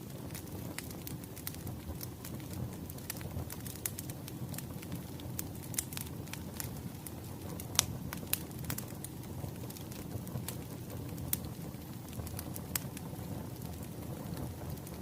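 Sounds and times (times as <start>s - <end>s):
burning logs rumbling: 0.0s - 15.0s
wood fire crackling: 0.0s - 15.0s.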